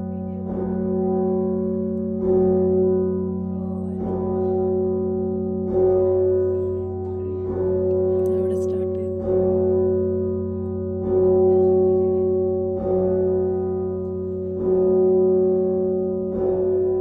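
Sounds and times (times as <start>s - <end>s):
hum of sustained bell tones: 0.0s - 17.0s
tower bells ringing: 0.0s - 17.0s.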